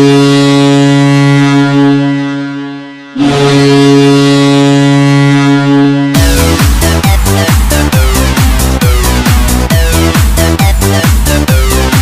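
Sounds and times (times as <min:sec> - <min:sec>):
goal horn blast: 0:00.0 - 0:10.3.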